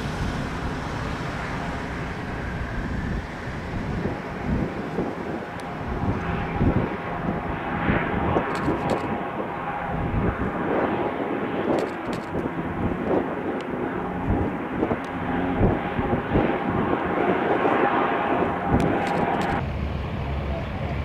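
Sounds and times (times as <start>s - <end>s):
faint turbine whine: 0.0s - 21.0s
propeller drone: 0.0s - 21.0s.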